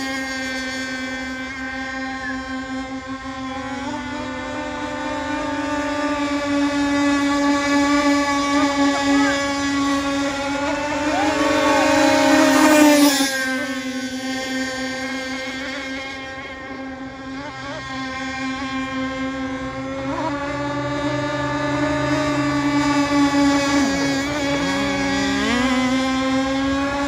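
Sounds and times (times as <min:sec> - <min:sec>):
rc boat motors buzzing: 0:00.0 - 0:27.0.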